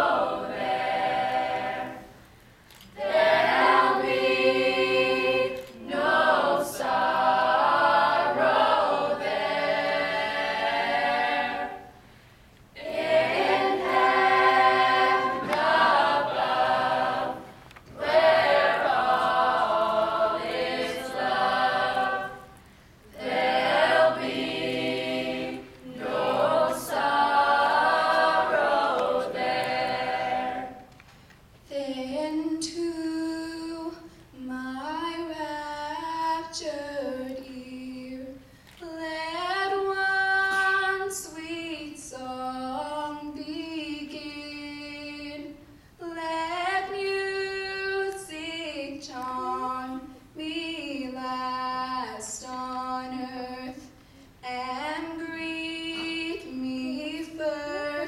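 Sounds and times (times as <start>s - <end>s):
a cappella group singing: 0.0s - 12.2s, 12.8s - 31.1s, 31.7s - 58.0s.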